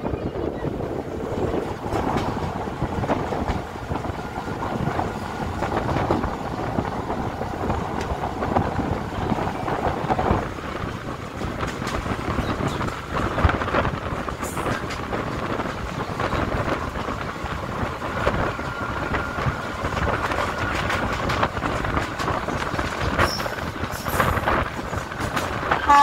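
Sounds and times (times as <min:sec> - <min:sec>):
train wheels and wind rushing: 0:00.0 - 0:26.0
wheels clicking on rails: 0:00.0 - 0:26.0.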